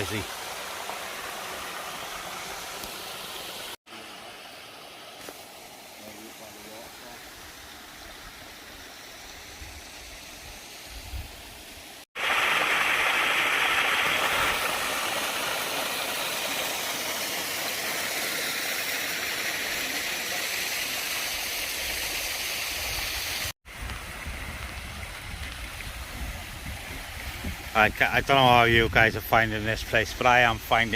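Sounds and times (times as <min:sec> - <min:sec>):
rushing stream and waterfall: 0:00.0 - 0:30.9.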